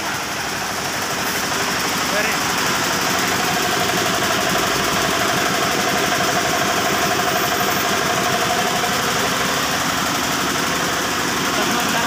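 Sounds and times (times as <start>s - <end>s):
air compressor pump running: 0.0s - 12.0s
diesel engine running: 0.0s - 12.0s.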